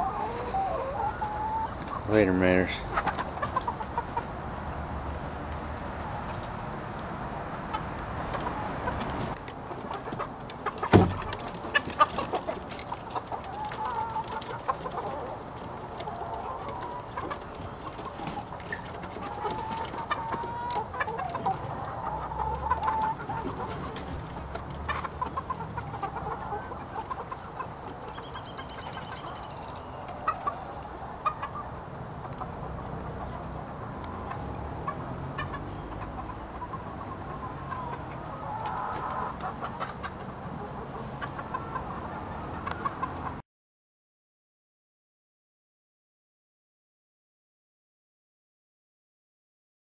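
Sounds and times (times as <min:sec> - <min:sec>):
chickens clucking: 0:00.0 - 0:43.4.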